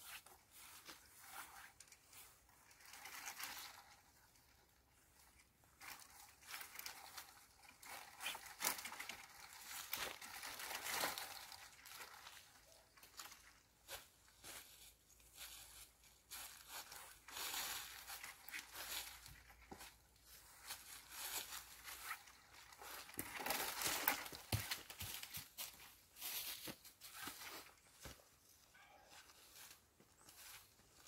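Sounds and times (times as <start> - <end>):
cord rustling through branches: 0.0 - 31.0.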